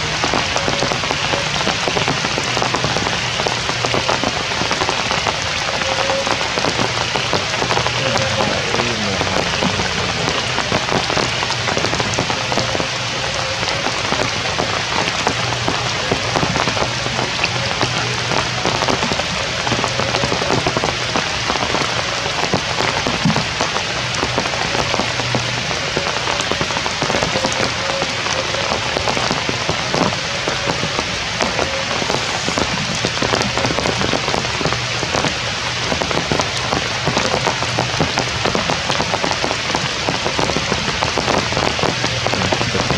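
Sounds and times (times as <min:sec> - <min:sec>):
heavy rain pattering: 0:00.0 - 0:42.9.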